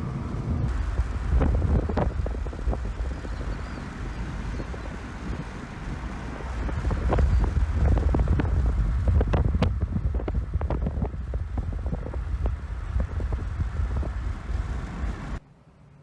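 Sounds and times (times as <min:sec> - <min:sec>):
loud low rumble: 0:00.0 - 0:15.4.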